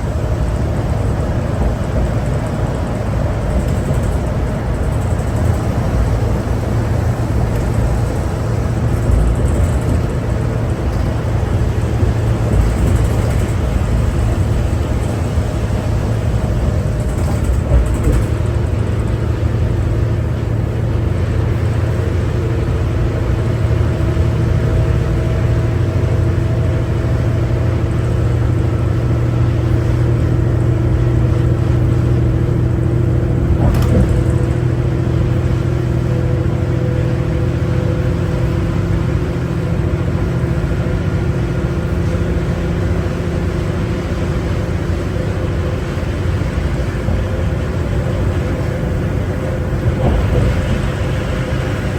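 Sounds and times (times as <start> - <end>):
bus engine rumble: 0.0 - 51.9
road noise: 0.0 - 51.9
steady whining tones: 0.0 - 51.9.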